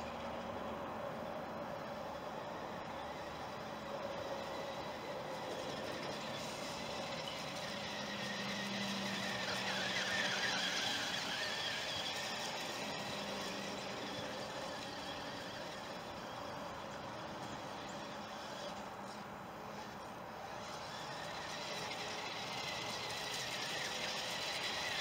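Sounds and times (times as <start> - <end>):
toy car motor whining: 0.0 - 25.0.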